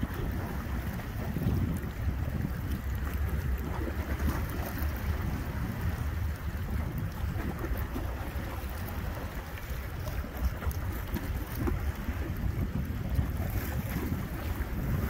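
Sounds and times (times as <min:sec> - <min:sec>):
choppy water: 0:00.0 - 0:15.0
wind buffeting microphone: 0:00.0 - 0:15.0.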